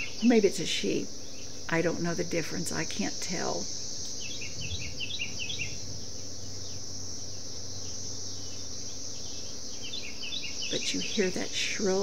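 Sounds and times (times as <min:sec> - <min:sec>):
cicadas shrill drone: 0:00.0 - 0:12.0.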